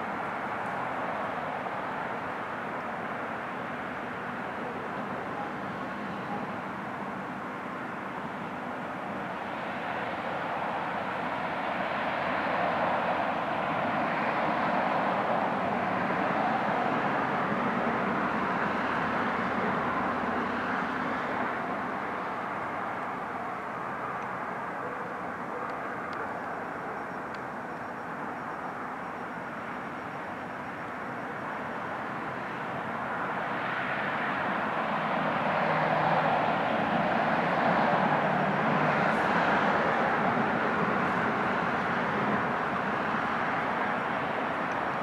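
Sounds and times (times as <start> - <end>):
distant aircraft rumble: 0.0 - 45.0.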